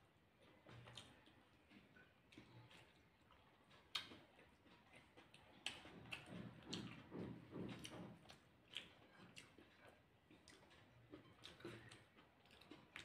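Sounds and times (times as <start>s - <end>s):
chewing and mouth smacks: 0.4s - 13.0s.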